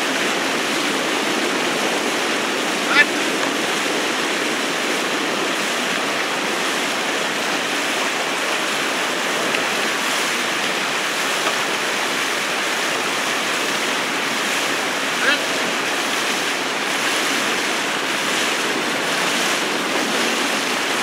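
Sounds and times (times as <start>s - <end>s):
water rushing past canoes: 0.0s - 21.0s.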